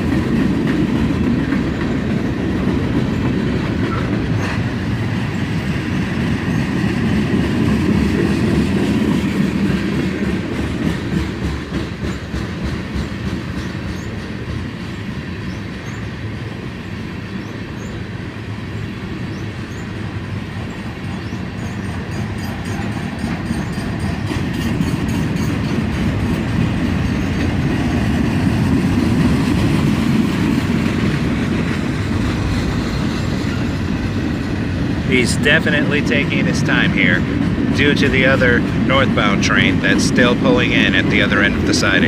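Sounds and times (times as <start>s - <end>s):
clickety-clack over rail joints: 0.0s - 42.0s
train wheels rumbling on rails: 0.0s - 42.0s.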